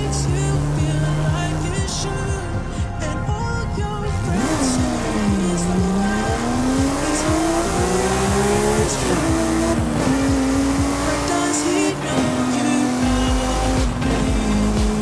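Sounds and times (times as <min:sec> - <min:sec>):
sports car engine revving: 0:00.0 - 0:02.5, 0:04.2 - 0:15.0
music with kick-drum beat: 0:00.0 - 0:15.0.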